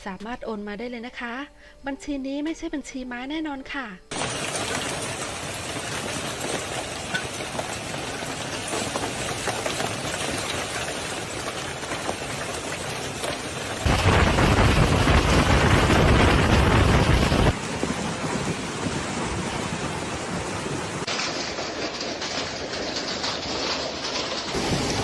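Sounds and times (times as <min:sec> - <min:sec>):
hail and heavy rain falling: 0:04.1 - 0:25.0.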